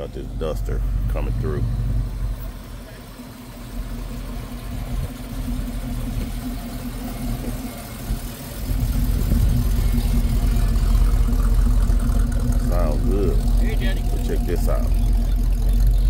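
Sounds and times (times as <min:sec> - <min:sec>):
car engine running slowly past: 0:00.0 - 0:16.0.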